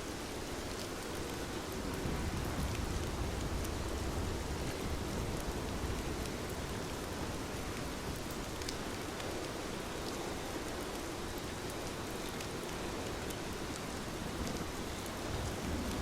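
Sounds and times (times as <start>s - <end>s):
heavy rain falling: 0.1s - 16.0s.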